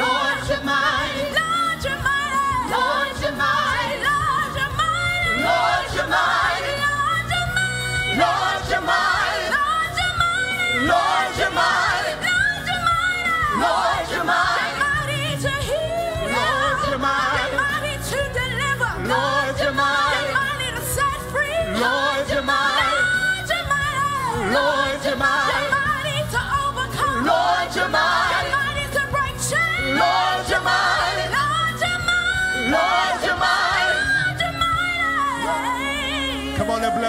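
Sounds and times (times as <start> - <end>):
backing singers: 0.0 - 37.0
band accompaniment with bass notes: 0.0 - 37.0
lead vocalists singing gospel: 0.0 - 37.0.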